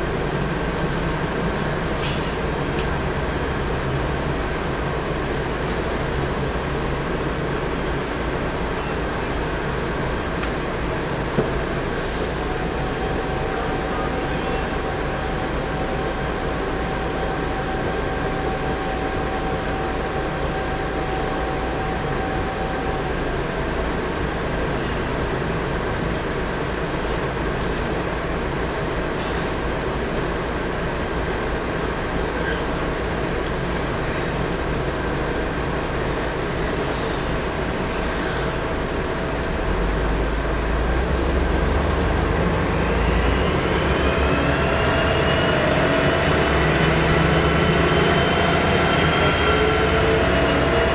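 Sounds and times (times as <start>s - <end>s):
bus engine and road drone: 0.0s - 50.9s.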